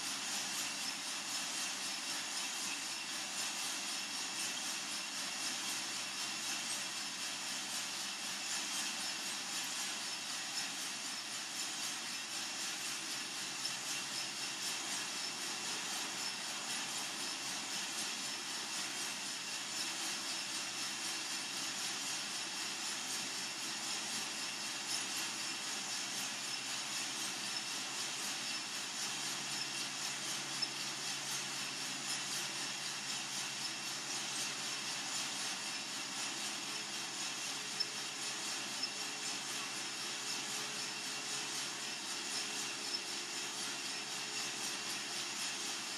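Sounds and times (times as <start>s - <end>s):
coffee roaster hissing: 0.0s - 45.9s
rattling drum and tumbling beans: 0.0s - 45.9s.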